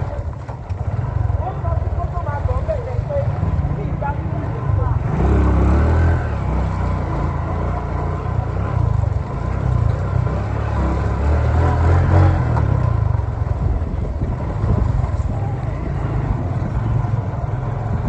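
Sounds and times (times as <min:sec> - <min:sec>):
vehicles passing on road: 0:00.0 - 0:18.0.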